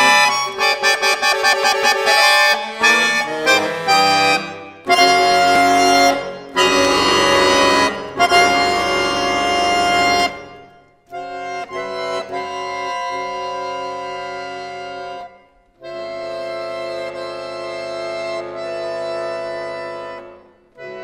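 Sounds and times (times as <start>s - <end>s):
accordion playing dissonant chords: 0.0s - 21.0s.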